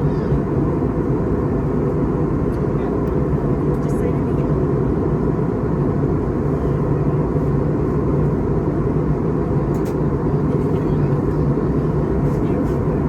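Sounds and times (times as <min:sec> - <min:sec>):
airplane cabin engine drone: 0:00.0 - 0:13.0
steady low hum: 0:00.0 - 0:13.0.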